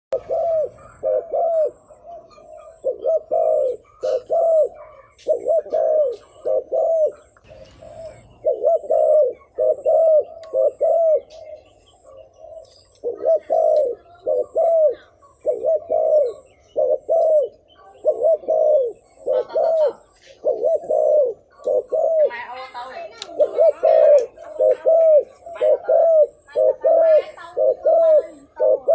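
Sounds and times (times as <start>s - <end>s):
dove cooing: 0.1s - 28.9s.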